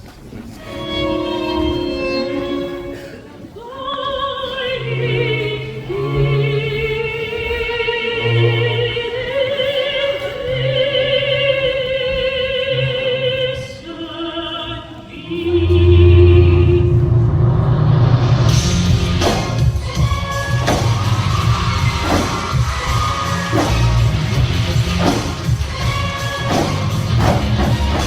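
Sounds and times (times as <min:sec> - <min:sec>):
low musical accompaniment: 0:00.6 - 0:03.5, 0:04.5 - 0:13.6, 0:15.2 - 0:28.0
operatic singing with vibrato: 0:00.6 - 0:28.0.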